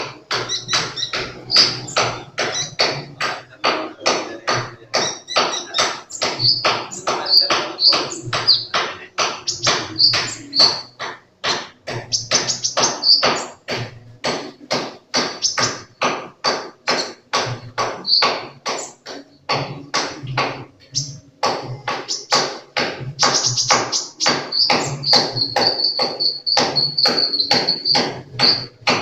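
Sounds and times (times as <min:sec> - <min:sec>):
bird chirping rapidly: 0:00.0 - 0:13.8, 0:15.1 - 0:16.1, 0:16.9 - 0:19.1, 0:21.9 - 0:22.6, 0:23.2 - 0:29.0.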